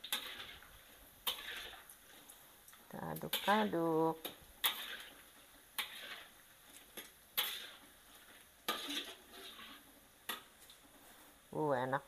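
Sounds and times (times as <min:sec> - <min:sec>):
utensil scraping a wok: 0:00.0 - 0:11.5
pork frying in oil: 0:00.0 - 0:12.0.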